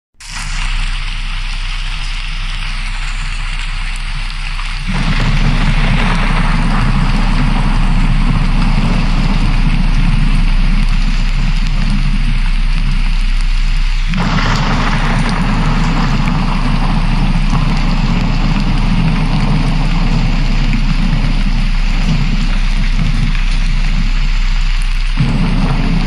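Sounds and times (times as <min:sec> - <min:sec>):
deep rumble: 0:00.2 - 0:26.0
steady rushing noise: 0:00.2 - 0:26.0.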